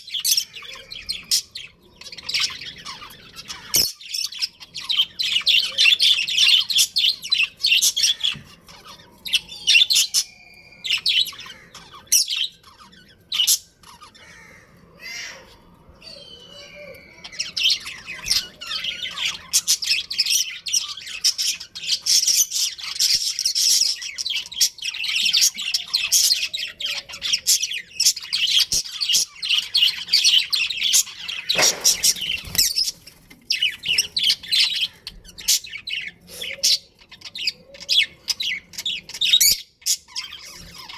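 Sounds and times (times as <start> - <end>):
budgerigars chattering: 0.0 - 15.5, 16.1 - 40.9.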